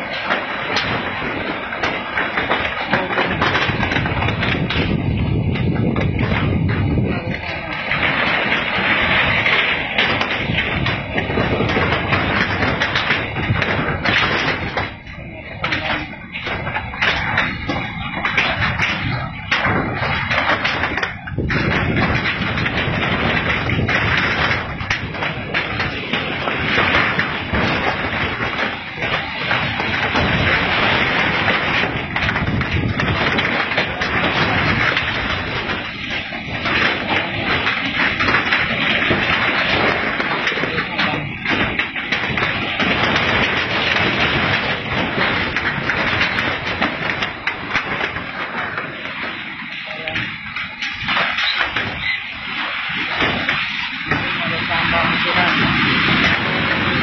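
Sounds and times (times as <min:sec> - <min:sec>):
crackling and thuds: 0:00.0 - 0:57.0
earthquake rumbling and crashing: 0:00.0 - 0:57.0
metal roofing banging: 0:00.0 - 0:57.0.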